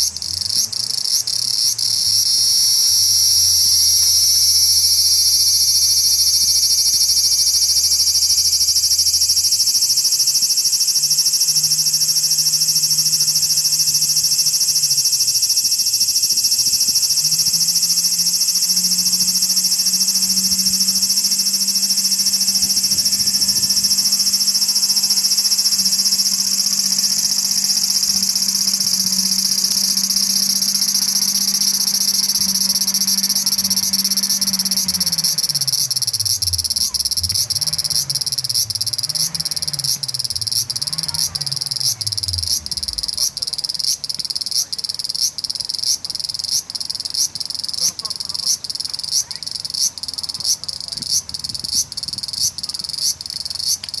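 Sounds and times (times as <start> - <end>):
cicada singing: 0.0 - 54.0.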